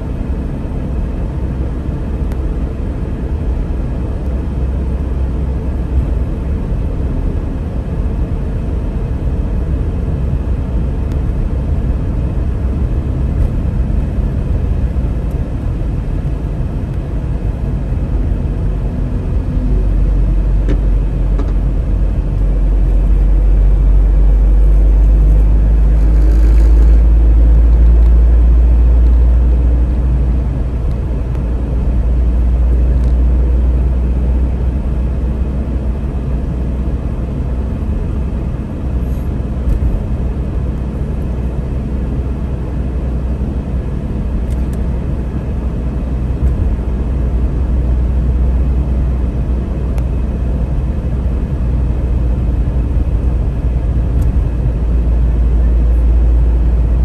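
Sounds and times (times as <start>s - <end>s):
car driving heard from inside: 0.0s - 57.0s.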